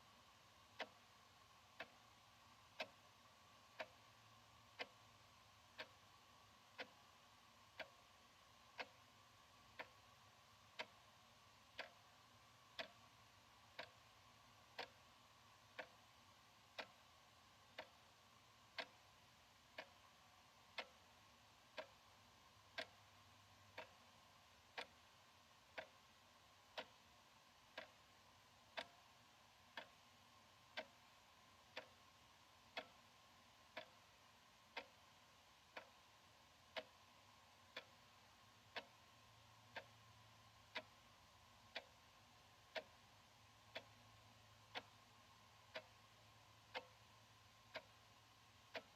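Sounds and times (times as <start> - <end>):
wall clock ticking: 0.0 - 48.9.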